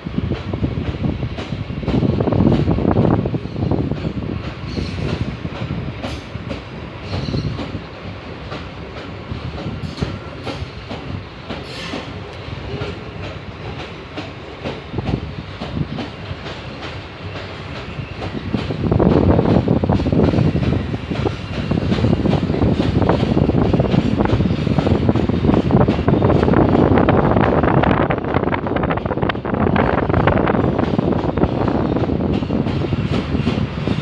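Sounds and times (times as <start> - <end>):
train wagons rumbling: 0.0 - 34.0
train wheels clicking over rail joints: 0.1 - 34.0.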